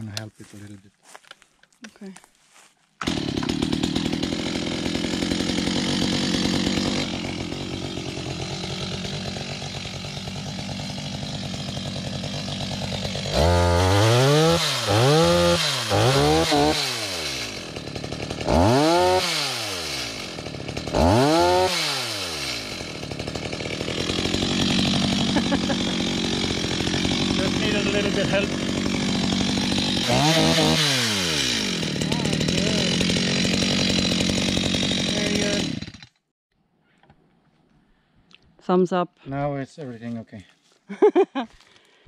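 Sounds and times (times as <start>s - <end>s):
chainsaw idling and revving: 2.5s - 36.3s.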